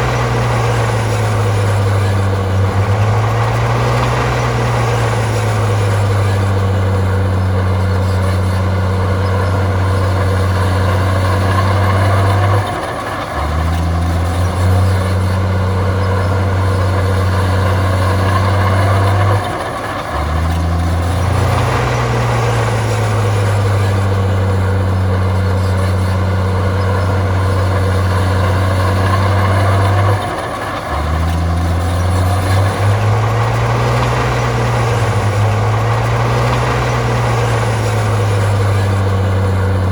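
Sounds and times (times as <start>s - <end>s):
bulldozer diesel engine working: 0.0s - 39.9s.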